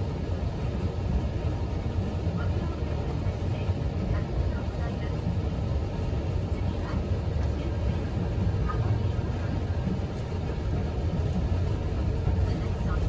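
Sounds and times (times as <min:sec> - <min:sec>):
electric train rumbling on track: 0:00.0 - 0:13.0.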